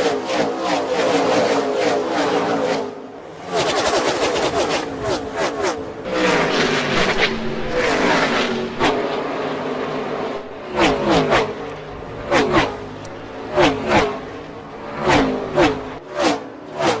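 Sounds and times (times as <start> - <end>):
race cars passing by: 0.0 - 17.0.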